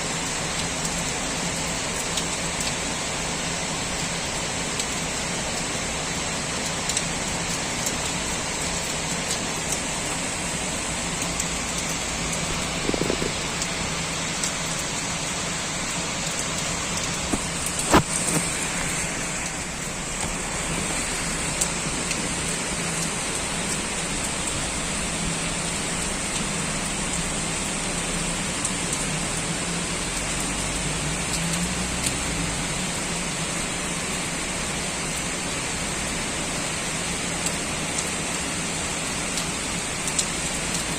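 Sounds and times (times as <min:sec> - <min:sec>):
heavy rain pouring: 0:00.0 - 0:40.9
sharp drip-like ticks: 0:00.0 - 0:40.9.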